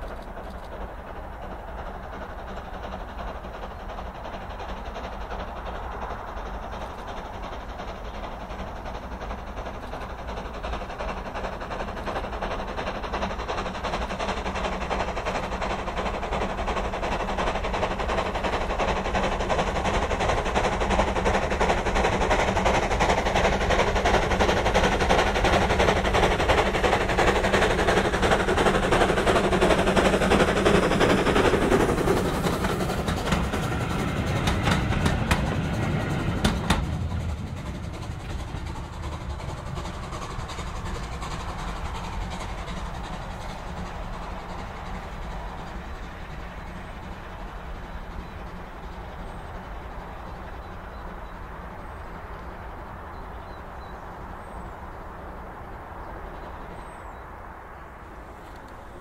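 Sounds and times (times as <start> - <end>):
train wheels clicking over rail joints: 0.0 - 57.2
steam engine exhaust beats: 0.0 - 59.0.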